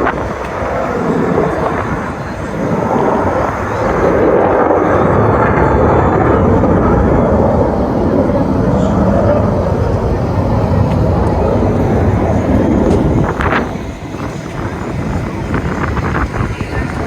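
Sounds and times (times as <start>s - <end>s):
fighter jets roaring: 0.0s - 17.0s.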